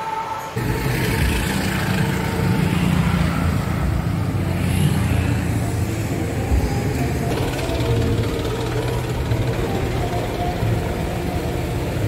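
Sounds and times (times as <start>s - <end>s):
car and motorcycle engines: 0.6s - 12.0s.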